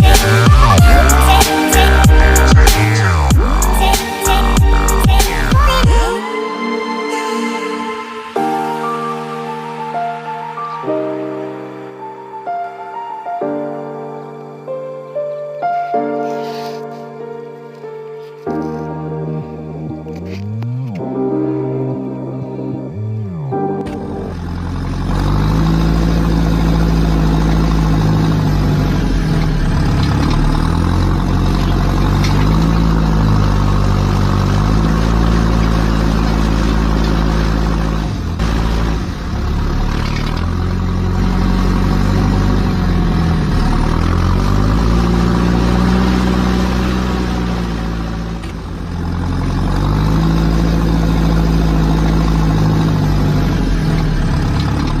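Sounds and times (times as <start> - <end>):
heavy engine running: 0.0 - 12.4, 16.2 - 55.0.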